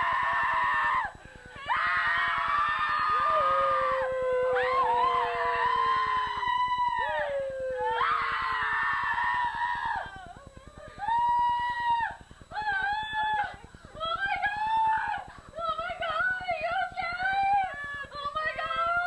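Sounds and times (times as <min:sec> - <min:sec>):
high voices wailing: 0:00.0 - 0:19.0.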